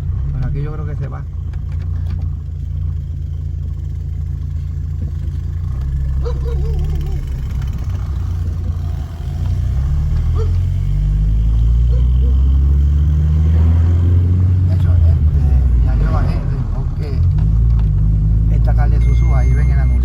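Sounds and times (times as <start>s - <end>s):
car engine: 0.0s - 20.0s
road rumble: 0.0s - 20.0s.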